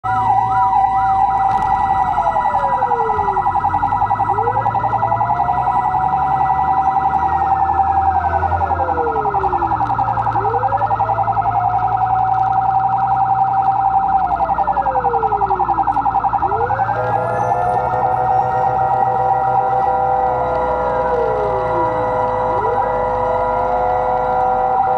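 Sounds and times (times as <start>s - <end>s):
fast-warbling siren: 0.0s - 24.9s
steady siren tone: 0.0s - 24.9s
wailing siren: 0.0s - 24.9s.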